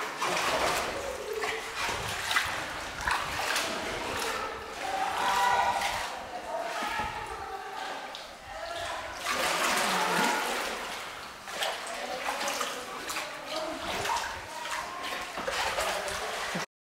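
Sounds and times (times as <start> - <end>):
water splashing around rowboat: 0.0 - 16.7.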